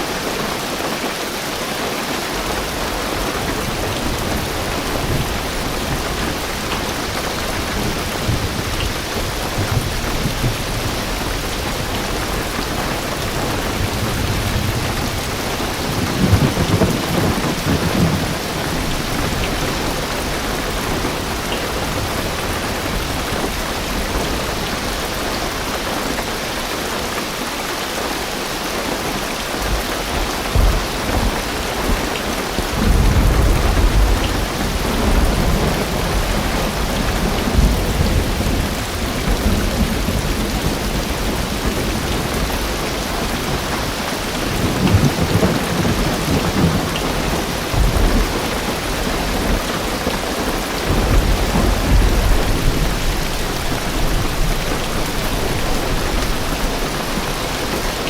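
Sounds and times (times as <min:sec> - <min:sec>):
rain drumming on a car roof: 0:00.0 - 0:58.0
deep thunder rumbling: 0:02.4 - 0:25.7, 0:29.5 - 0:58.0.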